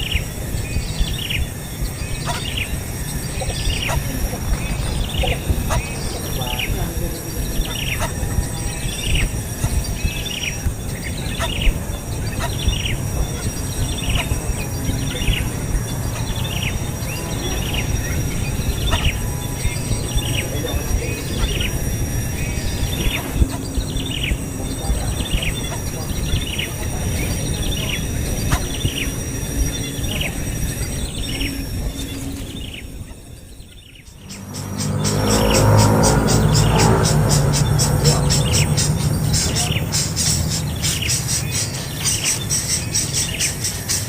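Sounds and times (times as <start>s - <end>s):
bird chirping: 0.0s - 44.0s
high insect drone: 0.0s - 44.0s.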